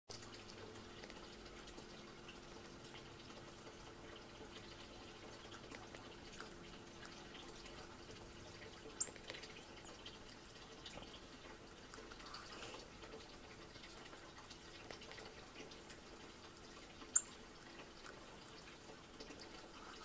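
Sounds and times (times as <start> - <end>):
faint steady hum: 0.1 - 20.0.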